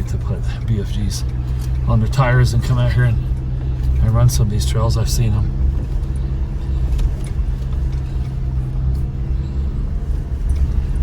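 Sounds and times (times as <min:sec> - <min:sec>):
pickup engine and drivetrain drone: 0:00.0 - 0:11.0.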